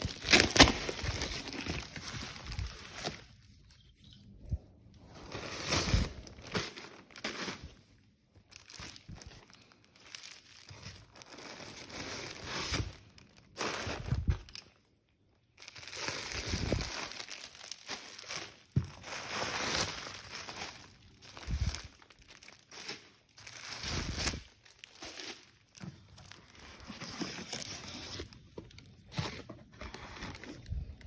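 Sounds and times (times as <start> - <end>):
packaging crinkling and rustling: 0.0 - 4.1, 5.0 - 14.8, 15.5 - 31.0.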